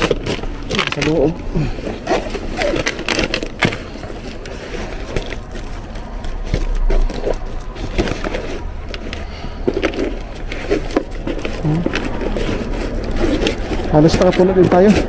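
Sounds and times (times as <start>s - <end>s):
cardboard box being handled: 0.0s - 15.0s.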